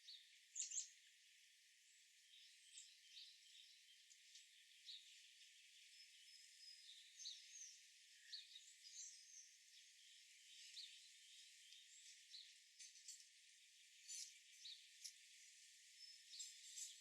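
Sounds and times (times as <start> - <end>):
birds chirping: 1.9 - 17.0.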